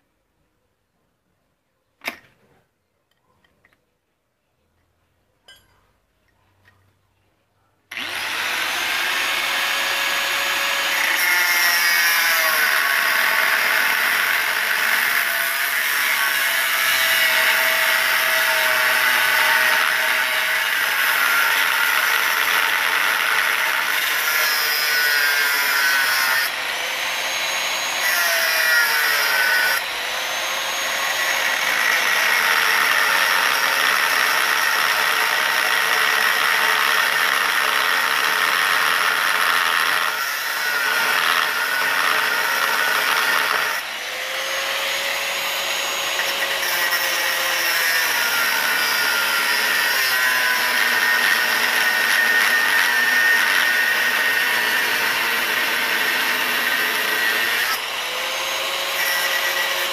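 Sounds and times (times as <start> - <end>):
power tool grinding metal: 7.9 - 59.9.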